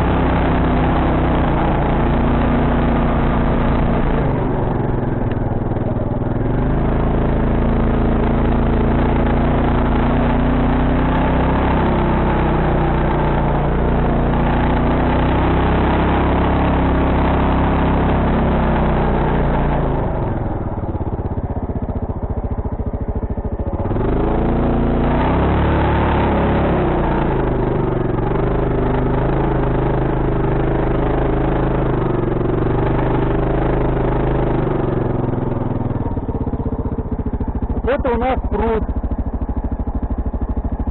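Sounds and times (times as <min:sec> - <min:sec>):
quad bike engine running: 0:00.0 - 0:40.9.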